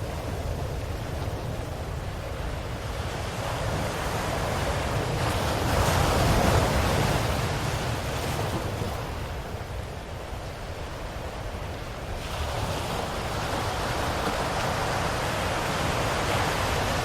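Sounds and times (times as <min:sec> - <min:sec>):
low rumble of surf: 0:00.0 - 0:17.0
ocean wave washing: 0:00.0 - 0:17.0.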